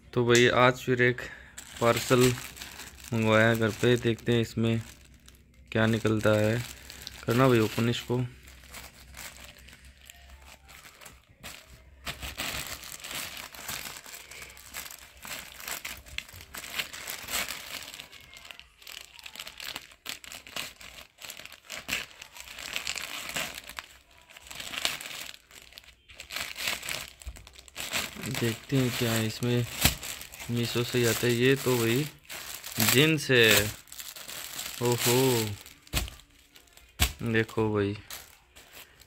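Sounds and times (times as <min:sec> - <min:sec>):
packaging crinkling and tearing: 0:01.4 - 0:39.0.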